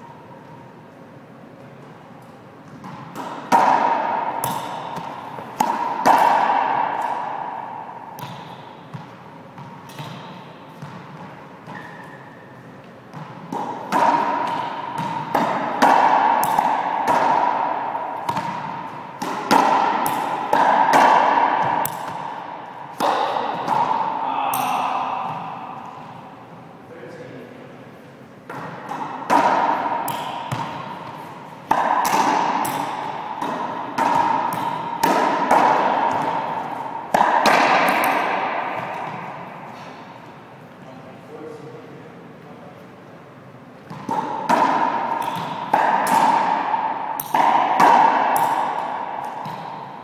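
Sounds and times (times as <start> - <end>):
racquetball hits echoing: 2.3 - 26.8, 28.4 - 40.6, 43.8 - 50.0.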